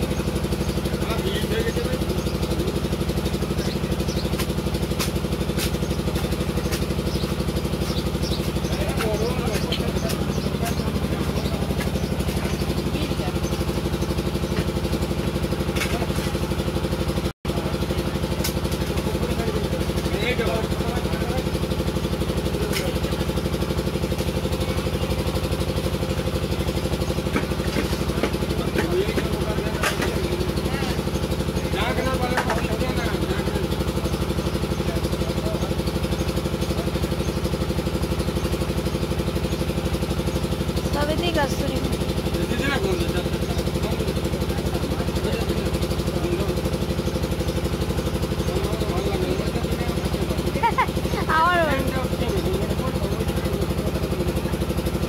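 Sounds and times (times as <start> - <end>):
small engine idling: 0.0 - 55.0.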